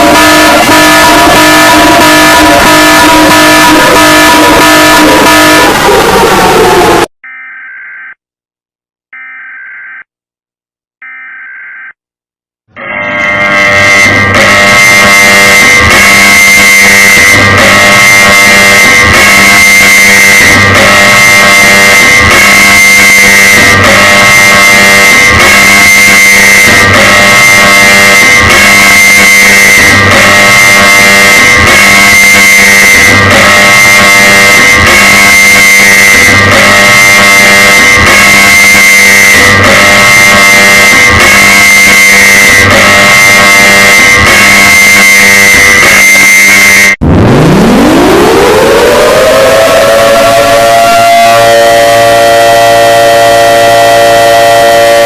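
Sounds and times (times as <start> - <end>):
distorted electronic alarm tone: 0.0 - 8.2, 9.1 - 10.1, 12.7 - 55.0.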